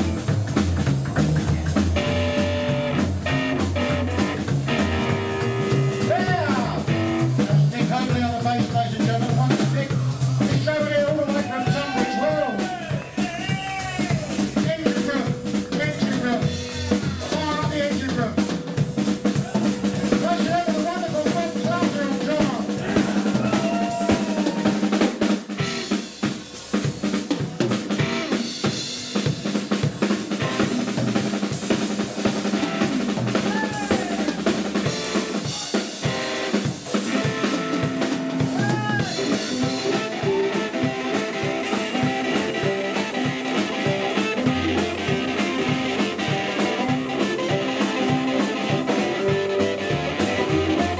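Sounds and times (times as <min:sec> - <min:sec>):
blues band instrumental: 0:00.0 - 0:50.9
drum kit rimshots and fills: 0:00.0 - 0:50.9.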